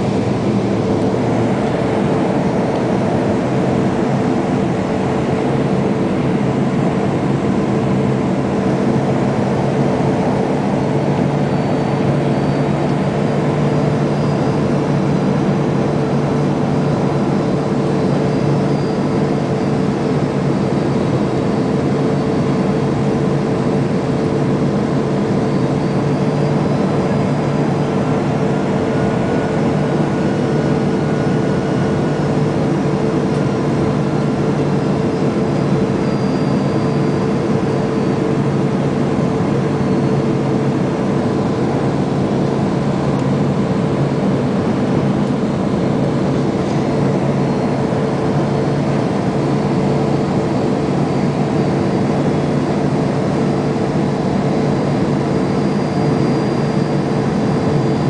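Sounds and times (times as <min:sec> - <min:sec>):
airliner cabin engine drone: 0:00.0 - 0:58.0
faint high whine: 0:00.0 - 0:58.0.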